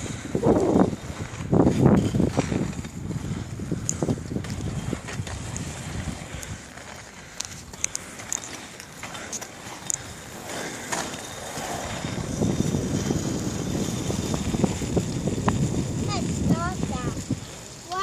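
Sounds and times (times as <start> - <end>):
bicycle tyres rolling on pavement: 0.0 - 18.0.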